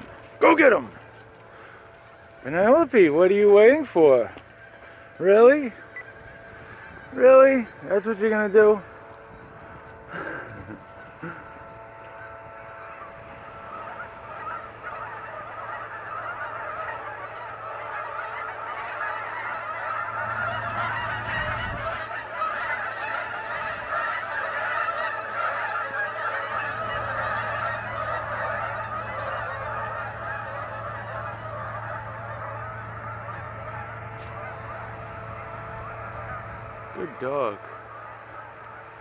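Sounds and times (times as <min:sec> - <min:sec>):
flock of geese honking: 0:00.0 - 0:39.0.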